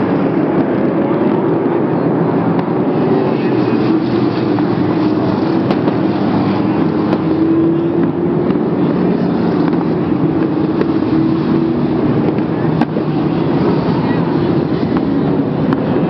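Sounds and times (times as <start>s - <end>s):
racing car engines droning: 0.0s - 16.0s.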